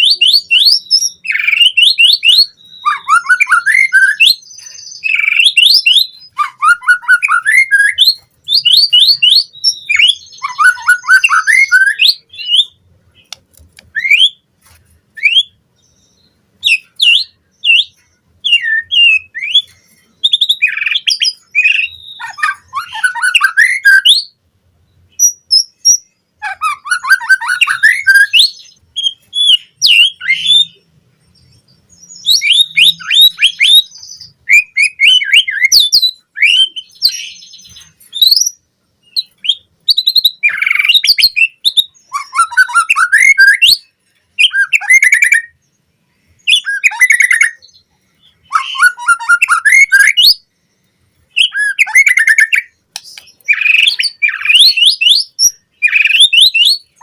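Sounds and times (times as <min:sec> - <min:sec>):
bird singing whistles and trills: 0:00.0 - 0:13.3, 0:13.9 - 0:14.5, 0:15.1 - 0:24.4, 0:25.0 - 0:57.0.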